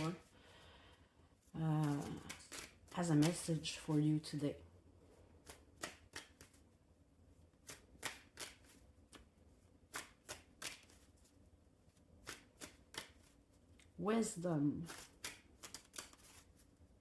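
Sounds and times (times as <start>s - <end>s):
cards being shuffled by hand: 0.0s - 0.4s, 1.4s - 4.4s, 5.3s - 17.0s.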